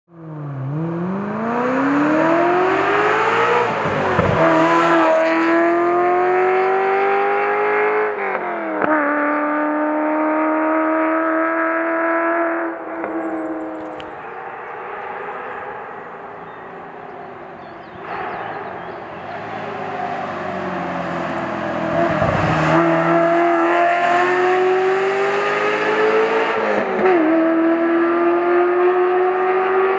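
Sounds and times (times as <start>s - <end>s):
car engine accelerating hard: 0.1s - 29.9s.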